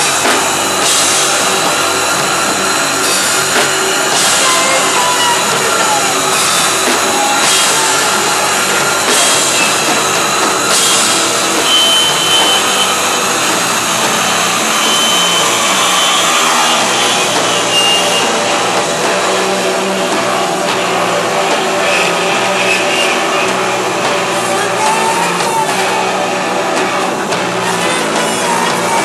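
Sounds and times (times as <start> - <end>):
live band playing distorted music: 0.0 - 29.0.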